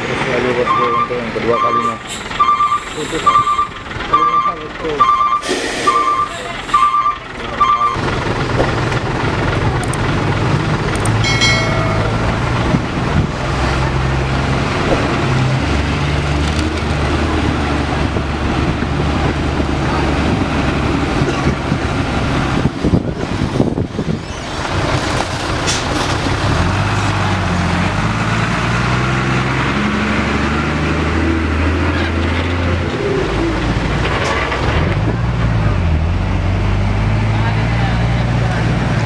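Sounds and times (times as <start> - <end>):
diesel trucks passing slowly: 0.0 - 39.0.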